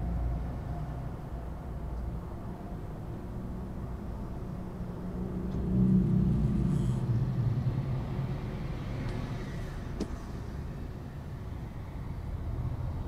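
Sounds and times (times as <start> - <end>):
freeway traffic noise: 0.0 - 13.0.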